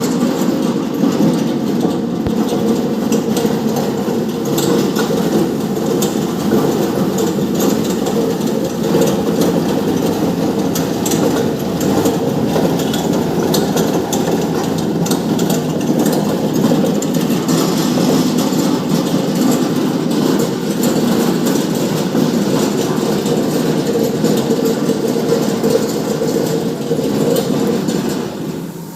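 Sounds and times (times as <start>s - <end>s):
wet grinder motor rumbling: 0.0s - 28.8s.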